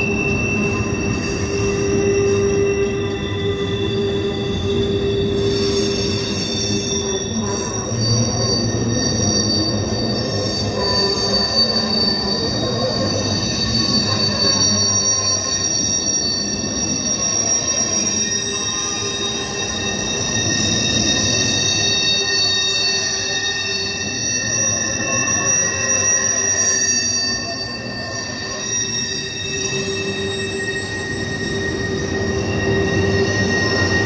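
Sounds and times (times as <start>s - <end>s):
train wheels squealing on rails: 0.0s - 34.0s.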